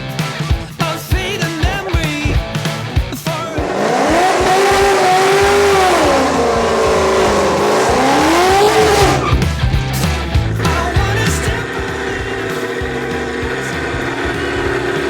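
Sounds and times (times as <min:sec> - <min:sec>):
car engine revving: 0:02.2 - 0:15.0.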